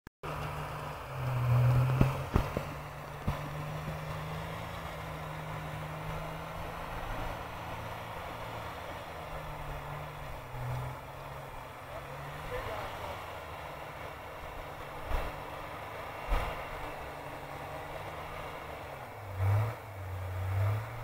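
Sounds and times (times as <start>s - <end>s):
off-road vehicle engine revving: 0.2s - 21.0s.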